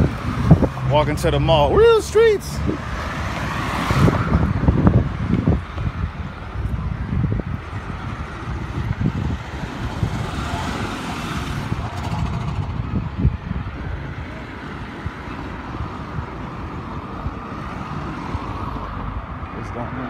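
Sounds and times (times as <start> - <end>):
wind on microphone: 0.0 - 19.5
cars passing: 0.0 - 20.0.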